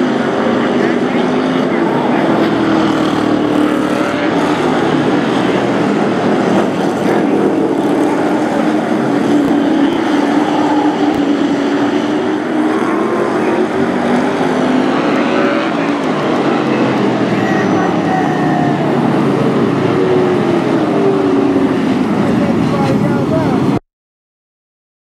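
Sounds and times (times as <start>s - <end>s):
race truck engines droning: 0.0s - 23.8s.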